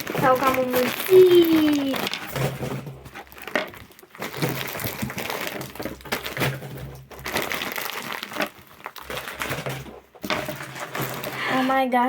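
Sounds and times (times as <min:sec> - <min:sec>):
plastic packaging crinkling: 0:00.0 - 0:11.9.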